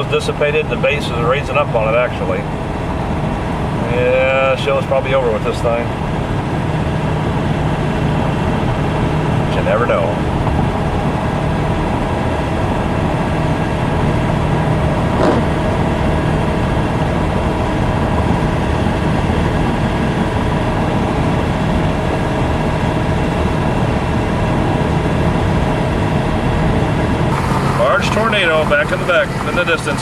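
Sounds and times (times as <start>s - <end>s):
vehicle road and engine noise: 0.0s - 30.0s.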